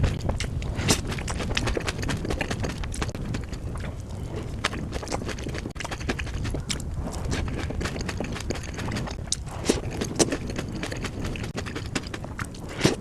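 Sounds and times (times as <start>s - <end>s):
crisp crunching while chewing: 0.0s - 13.0s.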